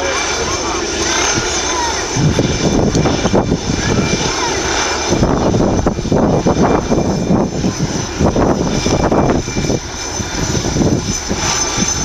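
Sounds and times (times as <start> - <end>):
helicopter rotor drone: 0.0 - 12.0.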